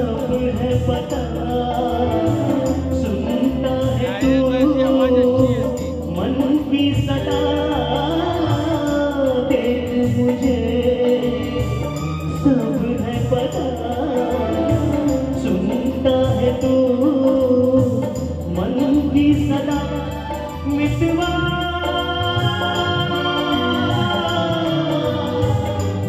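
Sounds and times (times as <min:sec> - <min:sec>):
keyboard and guitars band: 0:00.0 - 0:26.0
man singing into microphone: 0:00.0 - 0:26.0.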